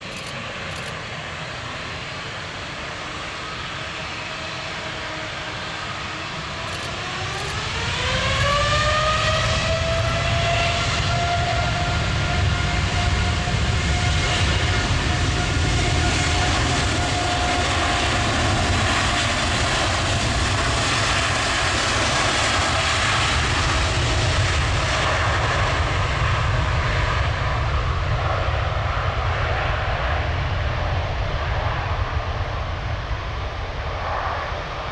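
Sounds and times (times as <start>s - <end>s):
jet engines spooling up: 0.0s - 34.9s.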